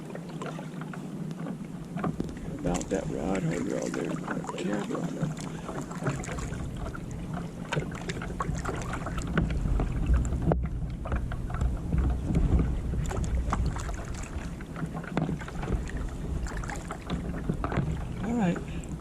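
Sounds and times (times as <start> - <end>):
paddle water splashing: 0.0 - 19.0
wind rumbling on microphone: 0.0 - 19.0.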